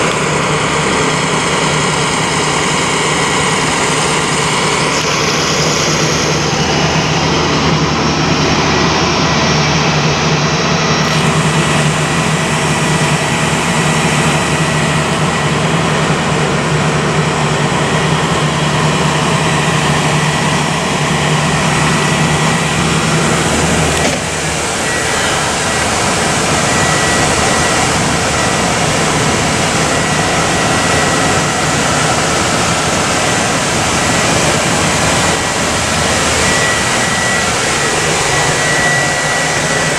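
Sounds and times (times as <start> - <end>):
engine idling hum: 0.0 - 39.9
high whine: 0.0 - 39.9.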